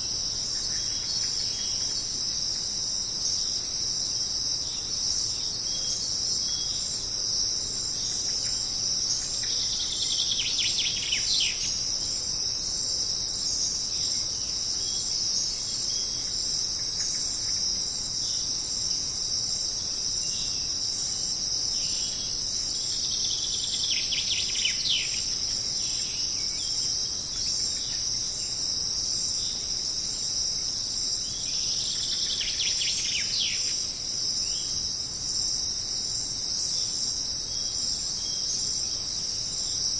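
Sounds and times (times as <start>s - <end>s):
crickets shrilling: 0.0s - 39.9s.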